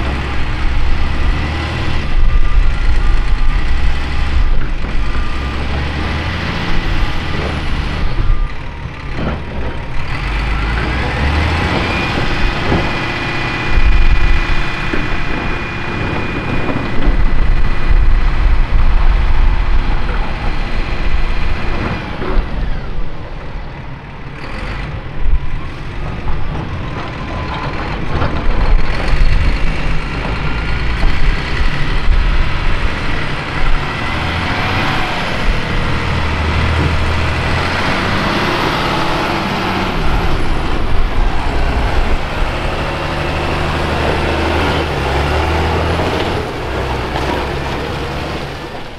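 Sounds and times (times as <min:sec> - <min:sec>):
diesel engines working: 0:00.0 - 0:48.9
high engine whine: 0:00.0 - 0:48.9.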